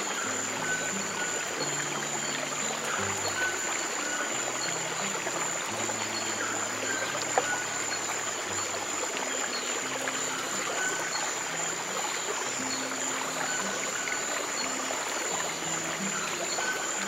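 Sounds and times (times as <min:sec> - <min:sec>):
soft slow low music notes: 0:00.0 - 0:17.0
stream water running: 0:00.0 - 0:17.0.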